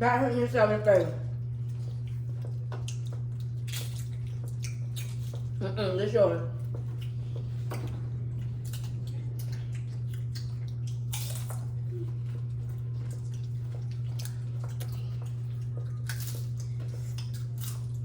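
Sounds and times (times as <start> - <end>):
steady low hum: 0.0 - 18.0
people chewing crunchy nachos: 1.2 - 18.0.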